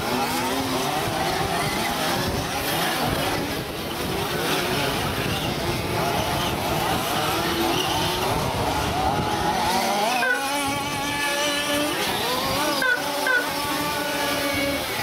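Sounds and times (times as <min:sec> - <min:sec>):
rc buggy engines revving: 0:00.0 - 0:15.0.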